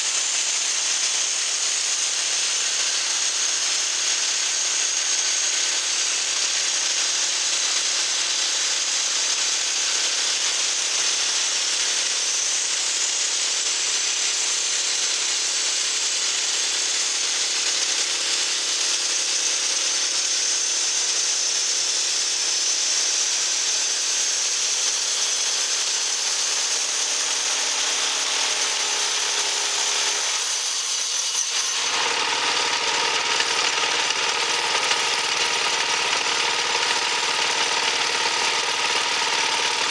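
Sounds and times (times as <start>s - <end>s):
engine running: 0.0s - 21.3s, 22.9s - 39.9s
band saw cutting log: 0.0s - 39.9s.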